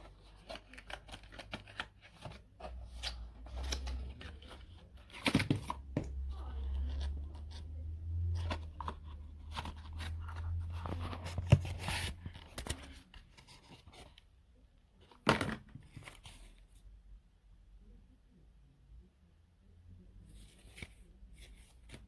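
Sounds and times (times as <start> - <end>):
handling rustles and scrapes: 0.0 - 14.4, 15.0 - 16.9, 20.1 - 22.0.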